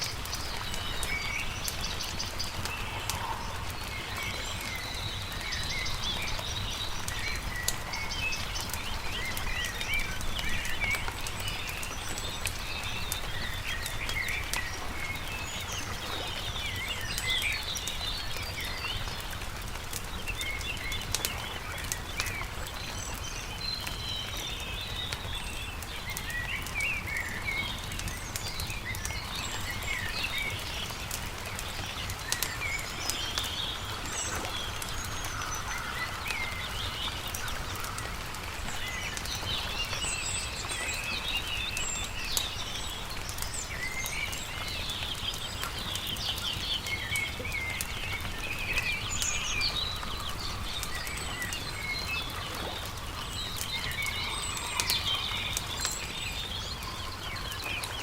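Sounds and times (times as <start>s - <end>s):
campfire crackling: 0.0s - 58.0s
small birds chirping: 0.0s - 58.0s.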